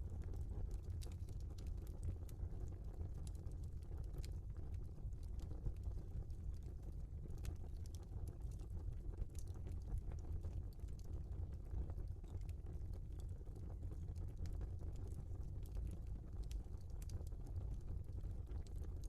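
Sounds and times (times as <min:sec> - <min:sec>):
fire crackles and pops: 0:00.0 - 0:19.0
log fire rumbling: 0:00.0 - 0:19.0.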